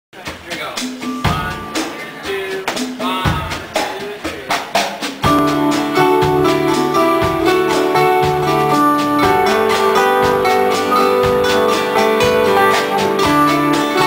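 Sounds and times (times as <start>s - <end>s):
folk-rock band playing: 0.2s - 14.0s.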